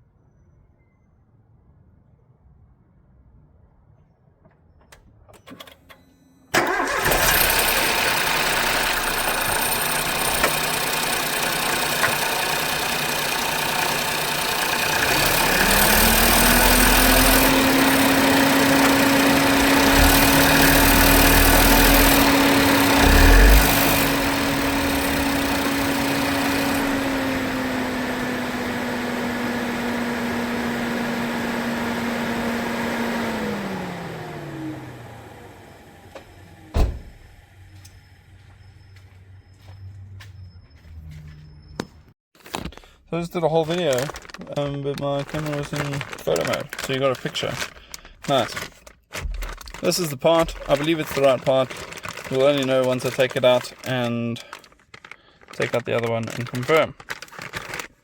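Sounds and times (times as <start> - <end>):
car engine running: 6.6 - 38.6, 43.3 - 57.9.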